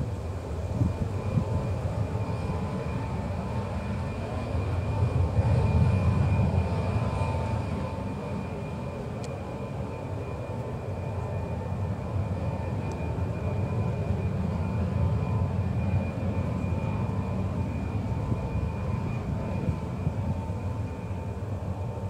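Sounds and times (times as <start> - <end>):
jet engines rumbling with whine: 0.0 - 22.0.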